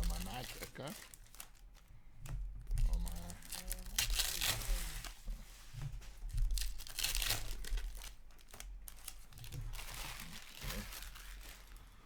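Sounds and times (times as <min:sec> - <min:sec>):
foil wrappers tearing and rustling: 0:00.0 - 0:01.9, 0:02.8 - 0:12.0.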